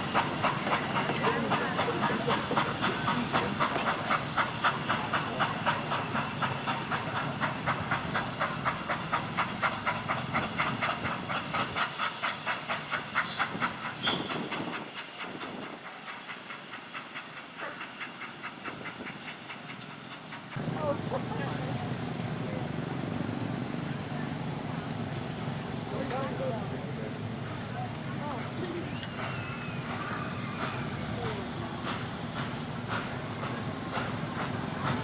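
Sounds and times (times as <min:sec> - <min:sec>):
steam hiss: 0:00.0 - 0:35.0
steam locomotive chuffing: 0:00.0 - 0:35.0.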